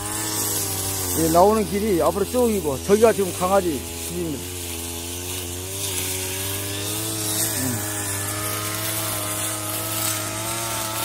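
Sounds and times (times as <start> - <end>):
brush cutter running: 0.0 - 11.0.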